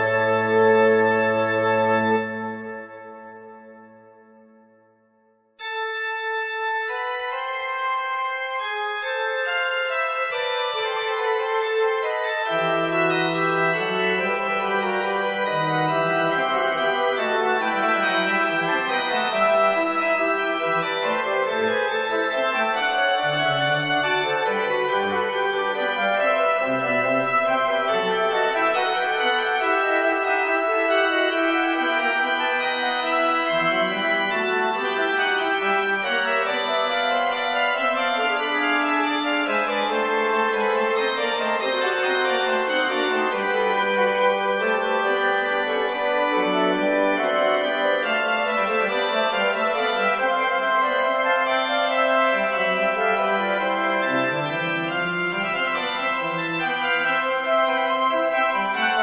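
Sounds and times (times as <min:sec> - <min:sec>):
organ and winds playing: 0:00.0 - 0:04.0, 0:05.6 - 0:59.0.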